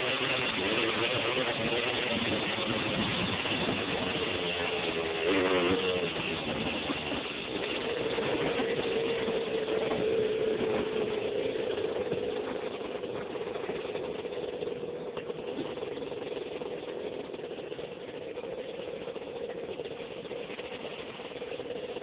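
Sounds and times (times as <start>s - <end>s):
two-stroke quad engine running: 0.0s - 22.0s.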